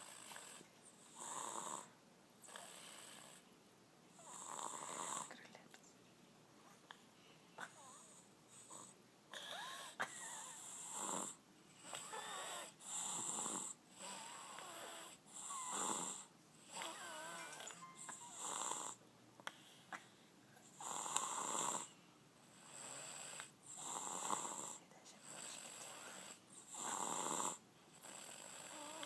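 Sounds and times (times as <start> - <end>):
baby snoring: 0.0 - 3.4, 4.1 - 5.3, 7.6 - 19.0, 20.7 - 29.0.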